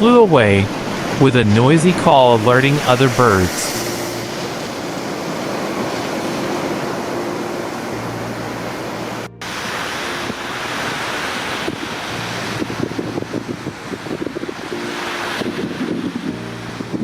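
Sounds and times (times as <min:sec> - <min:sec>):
sea surf: 0:00.0 - 0:17.0
wind on microphone: 0:00.6 - 0:17.0.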